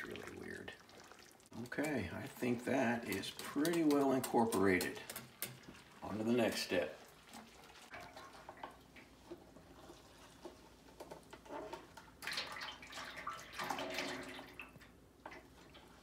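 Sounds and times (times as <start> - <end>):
liquid gurgling: 0.0 - 16.0.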